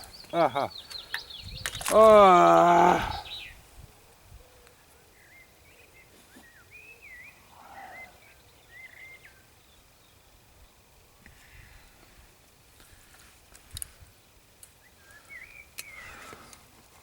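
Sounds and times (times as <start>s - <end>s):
songbird chirping: 0.0s - 13.0s, 13.7s - 16.6s.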